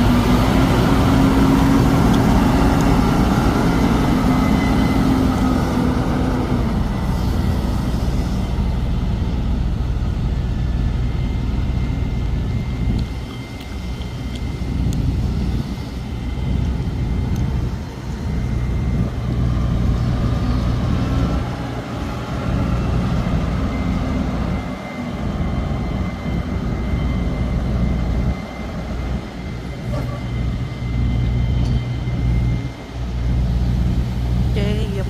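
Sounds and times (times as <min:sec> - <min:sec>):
faint high whine: 0:00.0 - 0:35.0
truck engine and road rumble: 0:00.0 - 0:35.0.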